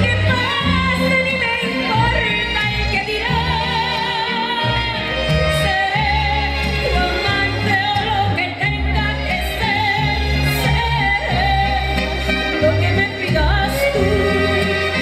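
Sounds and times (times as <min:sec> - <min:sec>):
instrumental backing music: 0:00.0 - 0:15.0
woman singing with vibrato: 0:00.0 - 0:15.0.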